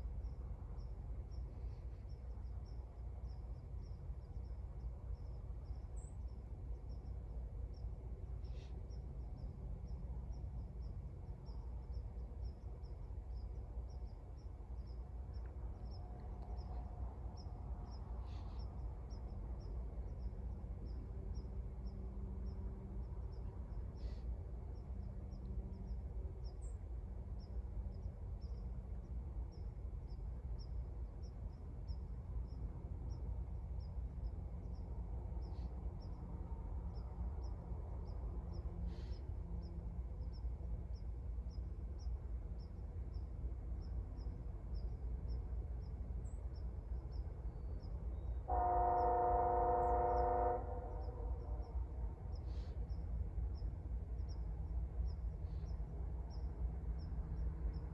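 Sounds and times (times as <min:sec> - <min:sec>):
steady low rumble: 0:00.0 - 0:48.6, 0:49.8 - 0:57.9
faint low drone: 0:00.0 - 0:57.9
faint high chirp: 0:00.2 - 0:26.8, 0:34.7 - 0:57.9.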